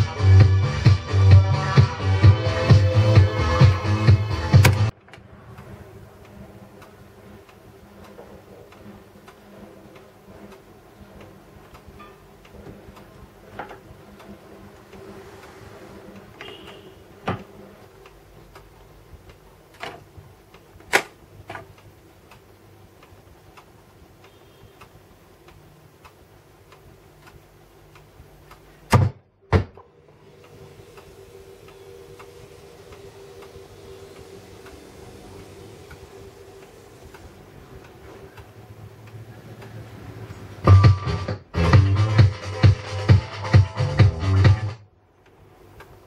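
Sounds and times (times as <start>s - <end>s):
turntable low hum: 0.0s - 46.0s
faint regular ticking: 0.1s - 28.9s, 30.1s - 40.8s, 45.1s - 46.0s
record player mechanical clicks: 4.4s - 40.9s, 45.2s - 46.0s.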